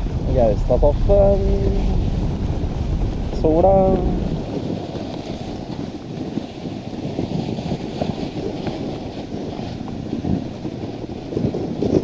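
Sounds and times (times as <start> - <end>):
sled runners scraping on snow: 0.0 - 12.0
wind on microphone: 0.0 - 12.0.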